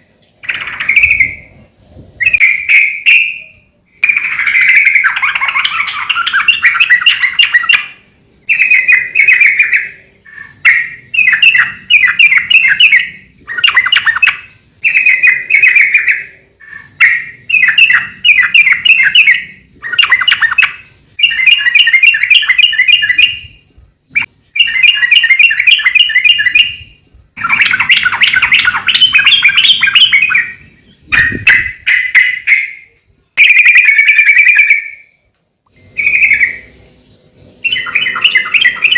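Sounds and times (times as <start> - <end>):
bird singing bubbly chattering phrases: 0.4 - 1.6, 2.2 - 35.0, 36.0 - 38.9.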